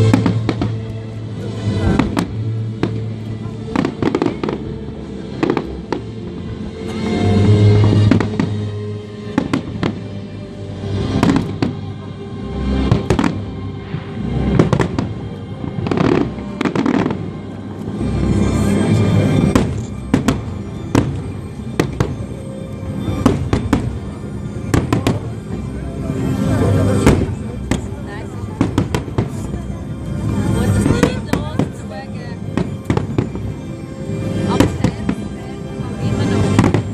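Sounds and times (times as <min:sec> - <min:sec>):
fireworks bangs and crackling: 0:00.0 - 0:10.2, 0:10.8 - 0:11.9, 0:12.7 - 0:36.9
music playing: 0:00.0 - 0:36.9.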